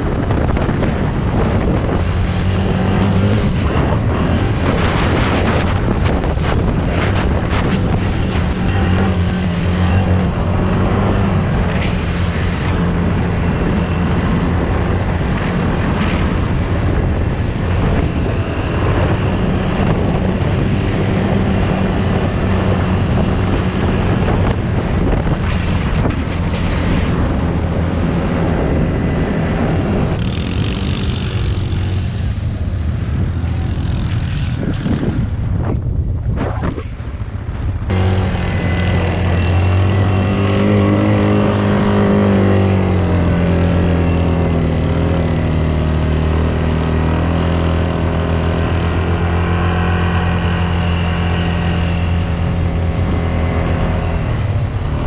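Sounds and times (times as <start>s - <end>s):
engine droning: 0.0s - 35.7s, 36.6s - 55.0s.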